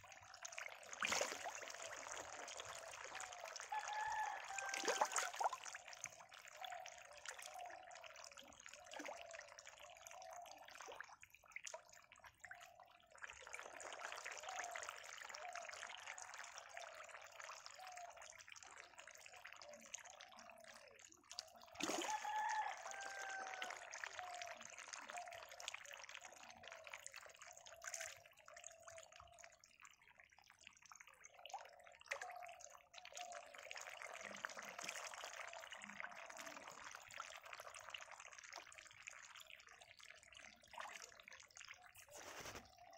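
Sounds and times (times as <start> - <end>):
water trickling and splashing: 0.0 - 42.9.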